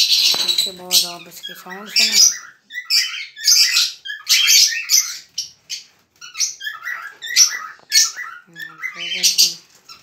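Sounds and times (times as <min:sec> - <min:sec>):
cockatiels chirping and screeching: 0:00.0 - 0:10.0.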